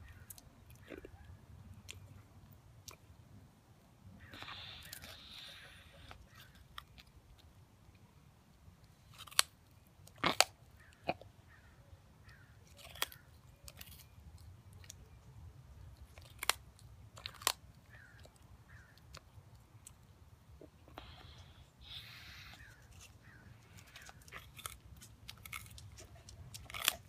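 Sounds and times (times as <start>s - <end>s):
quiet chewing: 0.0s - 3.4s, 4.2s - 27.0s
tortoise crunching carrots: 0.0s - 27.0s.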